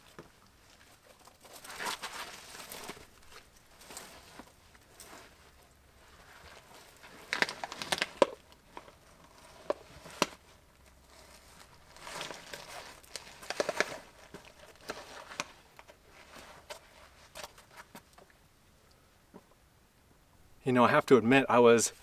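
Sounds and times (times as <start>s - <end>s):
clothing rustling: 0.0s - 18.2s.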